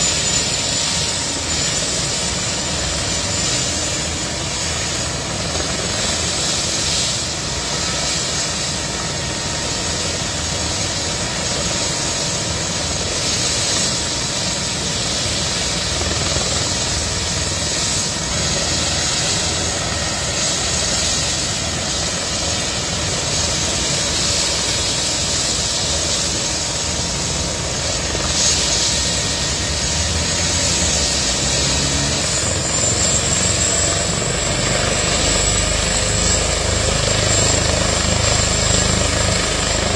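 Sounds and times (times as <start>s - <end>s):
helicopter turbine whine and rotor: 0.0s - 39.9s.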